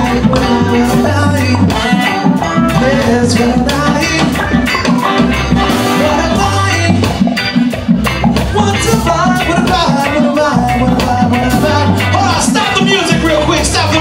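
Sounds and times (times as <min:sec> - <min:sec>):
person singing into a microphone: 0:00.0 - 0:07.4, 0:08.4 - 0:14.0
reggae band playing: 0:00.0 - 0:14.0.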